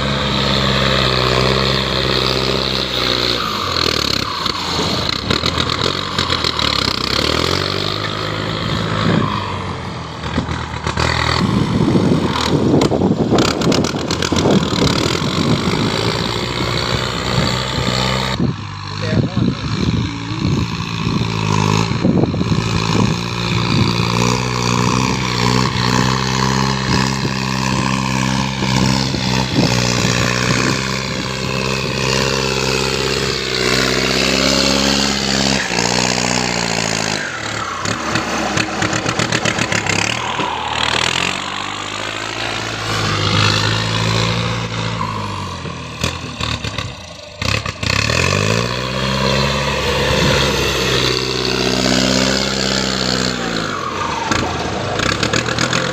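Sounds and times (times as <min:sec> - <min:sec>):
large engine running: 0:00.0 - 0:55.9.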